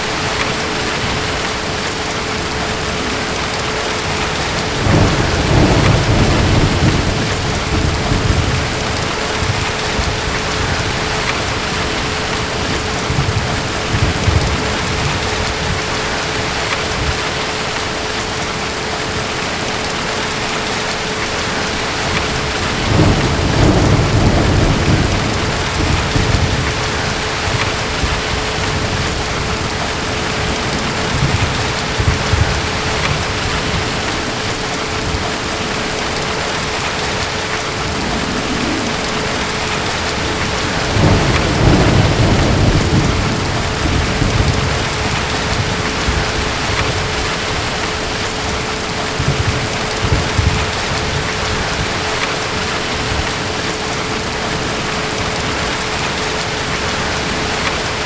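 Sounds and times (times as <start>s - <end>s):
distant thunder rumbling: 0.0s - 17.3s, 20.3s - 57.8s
heavy rain: 0.0s - 58.0s.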